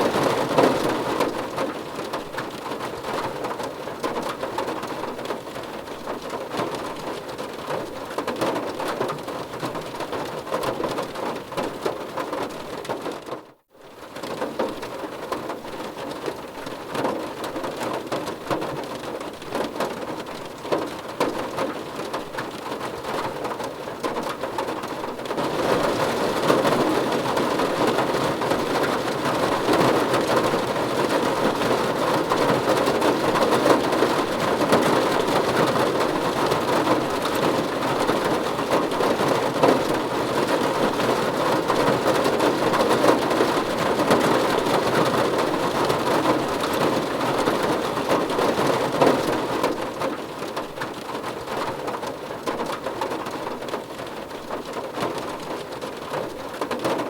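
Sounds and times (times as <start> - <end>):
heavy rain on a car roof: 0.0 - 57.0.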